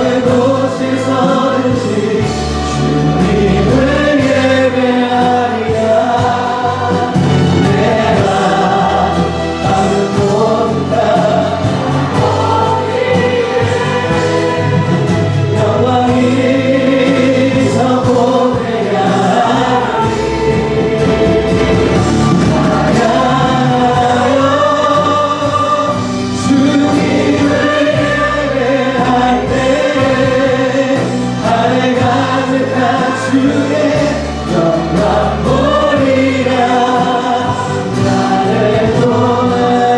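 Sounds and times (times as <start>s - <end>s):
church choir singing: 0.0s - 39.9s
low musical accompaniment: 0.0s - 39.9s.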